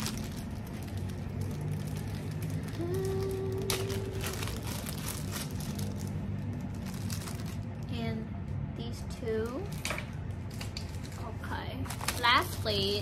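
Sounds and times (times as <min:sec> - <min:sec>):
plastic bags crinkling: 0:00.0 - 0:08.0, 0:09.6 - 0:13.0
low hum: 0:00.0 - 0:12.1.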